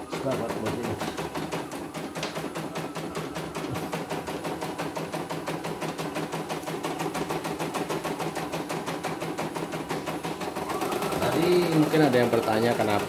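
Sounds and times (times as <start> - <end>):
embroidery machine stitching: 0.0 - 13.0.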